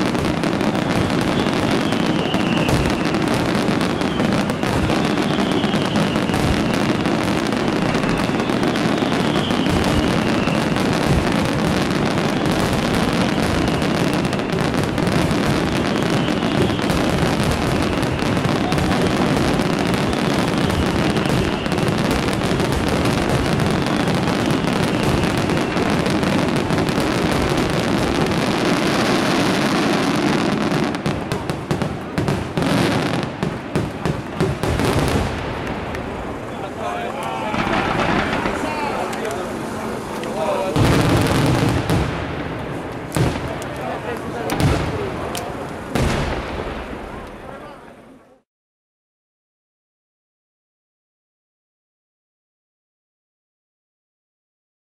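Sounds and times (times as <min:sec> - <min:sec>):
fireworks bursting and crackling: 0:00.0 - 0:48.2.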